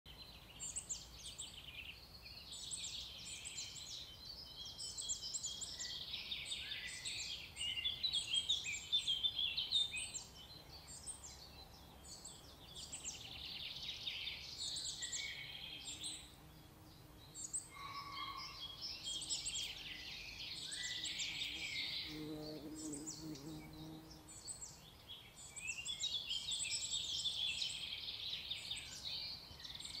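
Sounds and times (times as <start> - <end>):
songbirds chirping: 0.1 - 30.0.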